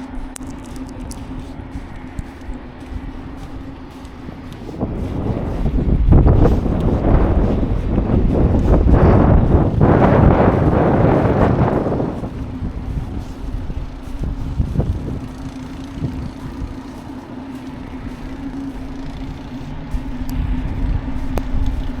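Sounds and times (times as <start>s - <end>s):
street ambience: 0.0s - 22.0s
vehicle engine humming: 0.0s - 22.0s
wind buffeting microphone: 0.0s - 22.0s.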